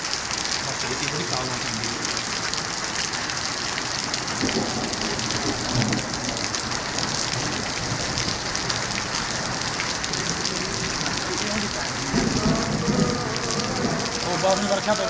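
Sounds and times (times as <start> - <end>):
heavy rain: 0.0 - 15.0
raindrops ticking on hard surfaces: 0.0 - 15.0.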